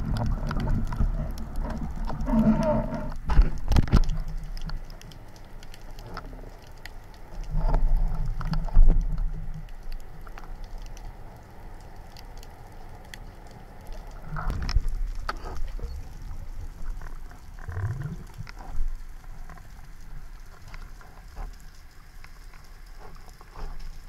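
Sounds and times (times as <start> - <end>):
faint underwater clicks: 0.0 - 24.0
low water rumble: 0.0 - 24.0.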